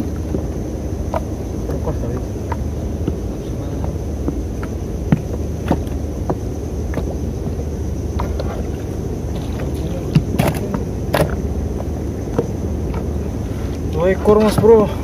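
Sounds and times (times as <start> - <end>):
low rumble in a boat: 0.0 - 15.0.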